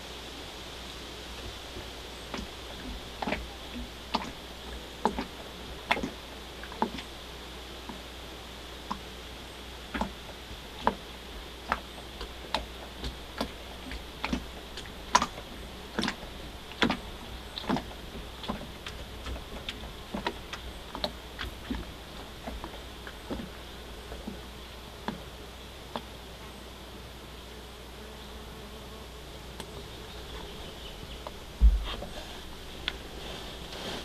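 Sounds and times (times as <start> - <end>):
faint high hiss: 0.0 - 34.0.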